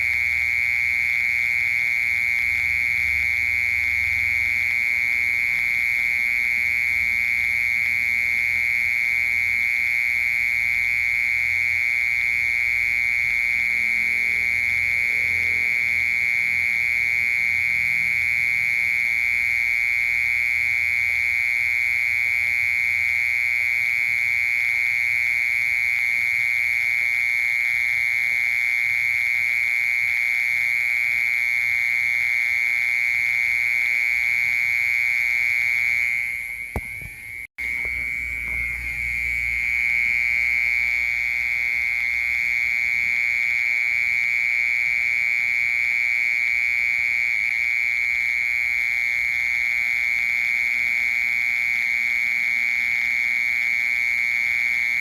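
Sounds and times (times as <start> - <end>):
cricket trilling: 0.0 - 55.0.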